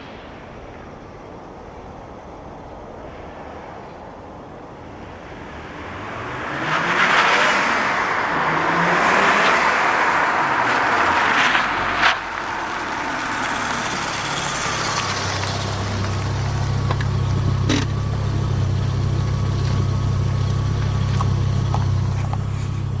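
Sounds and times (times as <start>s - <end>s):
car engine exhaust drone: 0.0s - 23.0s.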